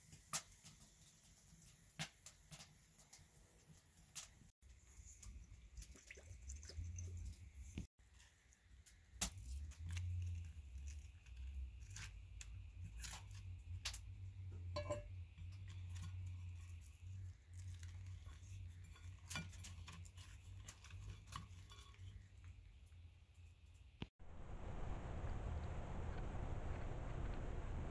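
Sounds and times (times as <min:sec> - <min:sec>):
low steady hum: 0:04.6 - 0:27.9.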